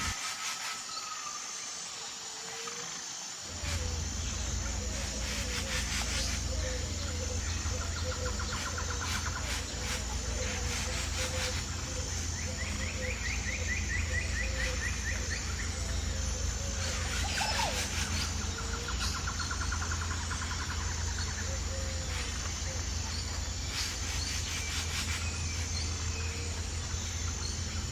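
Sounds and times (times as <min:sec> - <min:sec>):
rapid trilling chirps: 0:03.5 - 0:27.9
steady low rumble: 0:03.5 - 0:27.9.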